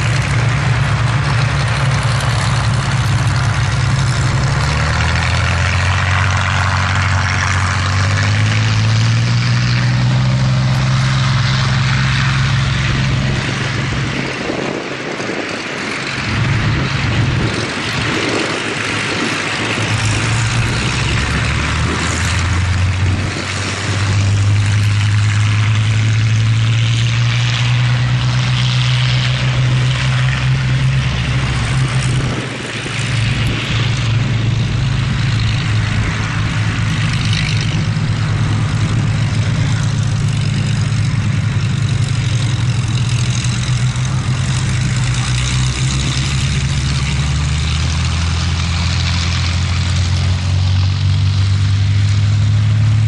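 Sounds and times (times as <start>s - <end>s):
propeller aircraft engines droning: 0.0s - 53.0s.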